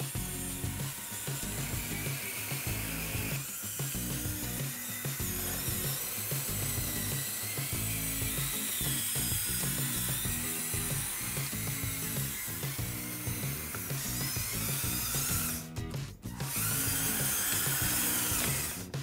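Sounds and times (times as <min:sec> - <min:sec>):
background music with bass line: 0:00.0 - 0:19.0
electric motor whine: 0:00.0 - 0:19.0.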